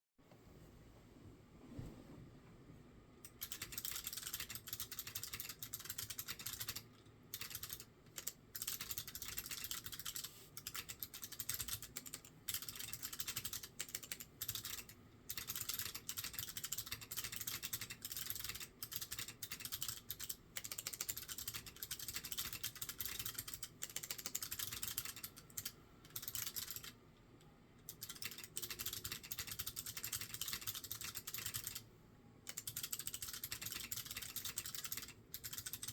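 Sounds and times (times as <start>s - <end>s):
clicky mechanical keyboard typing: 3.2s - 27.0s, 27.8s - 35.9s.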